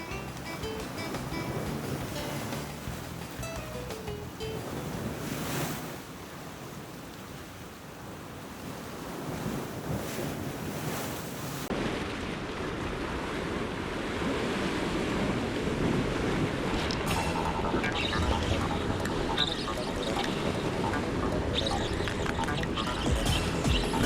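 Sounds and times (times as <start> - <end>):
sea surf washing around rocks: 0.0 - 23.1
wind buffeting microphone: 4.6 - 24.0.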